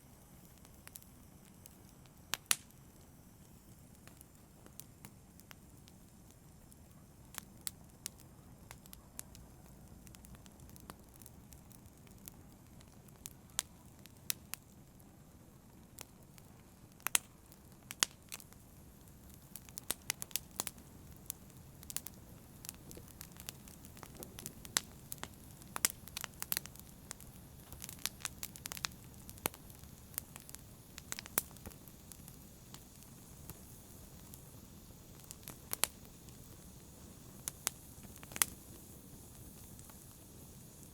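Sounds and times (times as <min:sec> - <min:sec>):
rumble of flames: 0:00.0 - 0:40.9
wood crackling and popping: 0:00.3 - 0:40.9.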